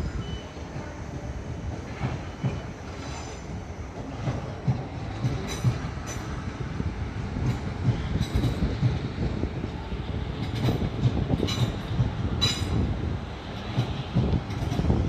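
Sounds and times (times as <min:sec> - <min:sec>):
train wheels rumbling on rail: 0:00.0 - 0:15.0
knocks of train wheels: 0:00.2 - 0:15.0.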